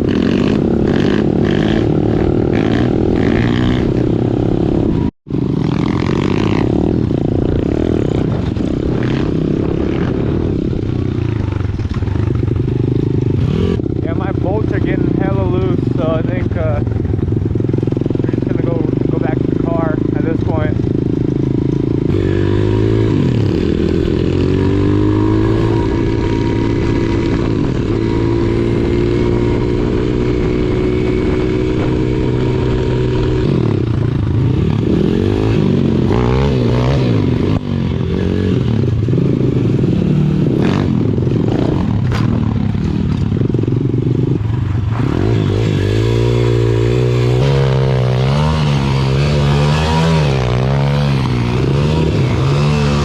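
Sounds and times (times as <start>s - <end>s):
pit bike engines revving: 0.0s - 53.0s.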